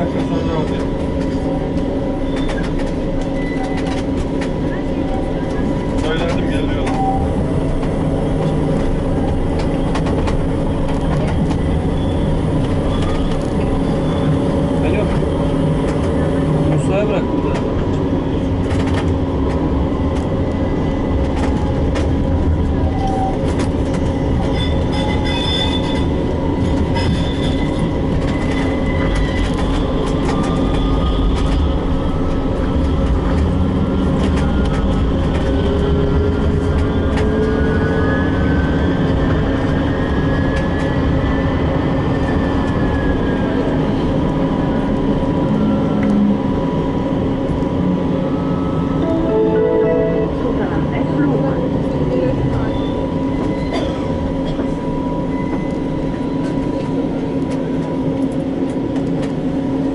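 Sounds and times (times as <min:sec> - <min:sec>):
tram wheels rumbling on rails: 0:00.0 - 0:59.9.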